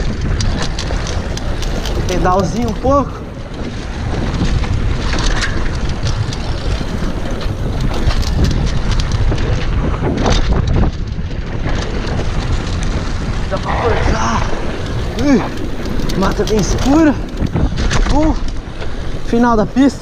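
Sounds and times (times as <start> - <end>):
bike knocks and rattles: 0.0 - 20.0
bike tyres on dirt: 0.0 - 20.0
wind rush over microphone: 0.0 - 20.0.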